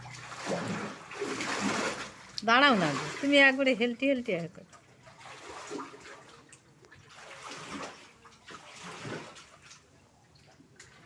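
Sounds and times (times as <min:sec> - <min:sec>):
floodwater sloshing and lapping: 0:00.0 - 0:11.0
water swishes: 0:00.0 - 0:11.0.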